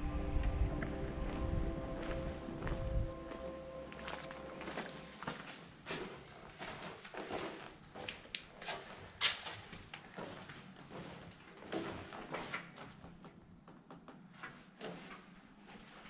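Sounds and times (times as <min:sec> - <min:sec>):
footsteps scuffing on tunnel floor: 0:00.4 - 0:16.0.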